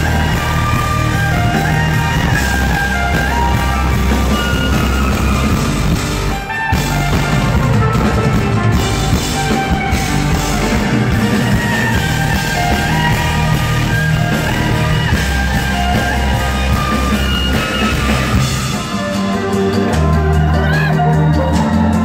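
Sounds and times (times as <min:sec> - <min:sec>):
backing music with drums and bass: 0:00.0 - 0:22.0
electric violin melody: 0:00.0 - 0:22.0.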